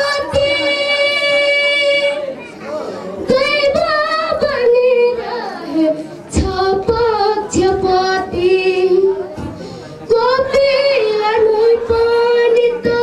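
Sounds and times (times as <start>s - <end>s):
boy singing into a microphone: 0.0s - 2.5s, 3.2s - 13.0s.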